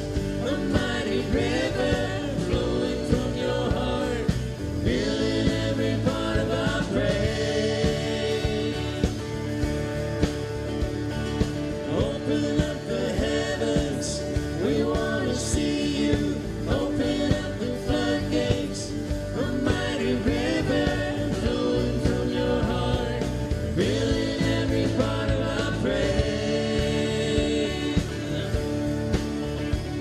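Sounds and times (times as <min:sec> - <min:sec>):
man singing: 0:00.0 - 0:09.2, 0:11.8 - 0:28.8
acoustic guitar: 0:00.0 - 0:30.0
bass guitar: 0:00.0 - 0:30.0
drum kit: 0:00.0 - 0:30.0
electric guitar: 0:00.0 - 0:30.0
woman singing: 0:00.4 - 0:09.2, 0:11.9 - 0:28.6.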